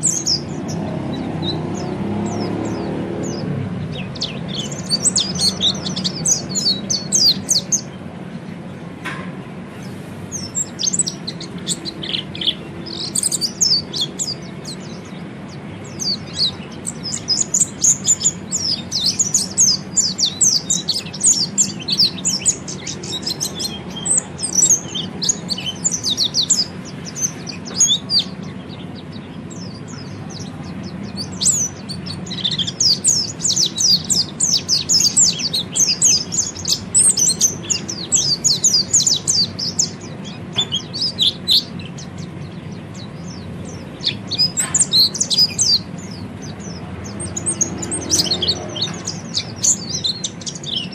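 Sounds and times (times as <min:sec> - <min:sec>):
bird twittering chatter: 0:00.0 - 0:08.0, 0:09.8 - 0:50.9.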